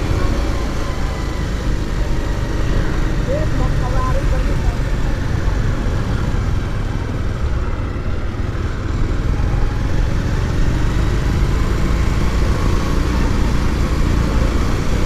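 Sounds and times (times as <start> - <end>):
motorcycle engine rumble: 0.0 - 15.0
road noise: 0.0 - 15.0.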